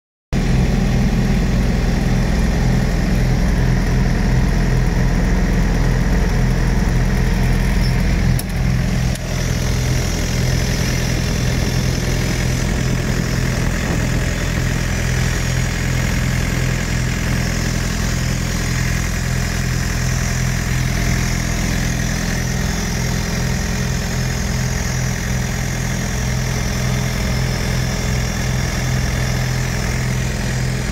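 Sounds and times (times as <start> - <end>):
small diesel engine running: 0.4 - 30.9.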